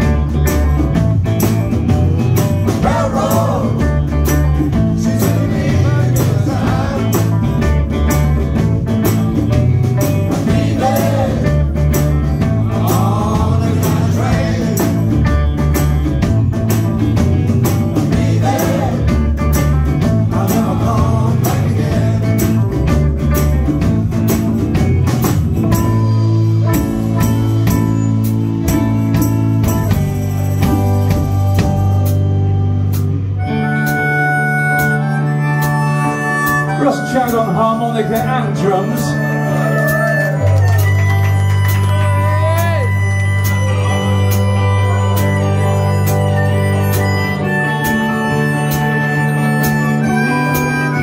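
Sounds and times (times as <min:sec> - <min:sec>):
drums: 0:00.0 - 0:51.0
electric guitar lead melody: 0:00.0 - 0:51.0
live blues-rock band: 0:00.0 - 0:51.0.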